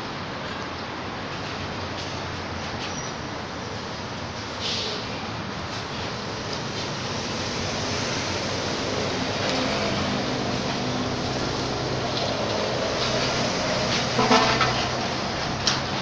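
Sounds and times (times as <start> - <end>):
passing road traffic: 0.0 - 16.0.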